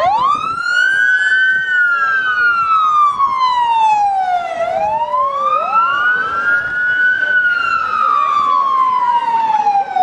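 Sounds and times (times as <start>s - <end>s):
police sirens wailing: 0.0s - 10.0s.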